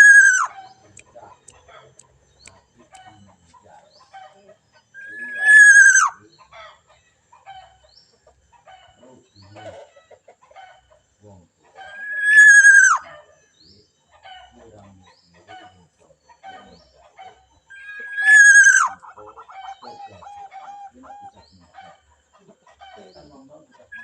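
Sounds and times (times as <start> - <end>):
chicken chirps and clucks: 0.0 - 24.0.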